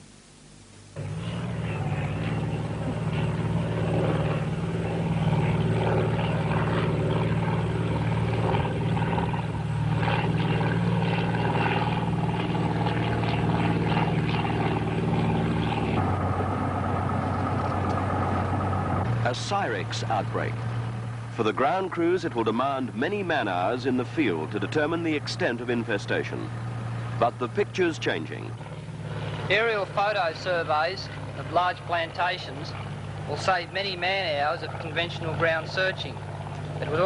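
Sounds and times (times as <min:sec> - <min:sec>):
light aircraft engine droning: 0:00.0 - 0:37.0.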